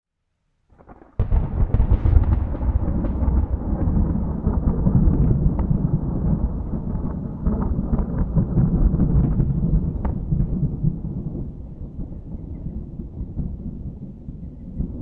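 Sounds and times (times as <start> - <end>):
thunder crack and rumble: 0.8 - 15.0.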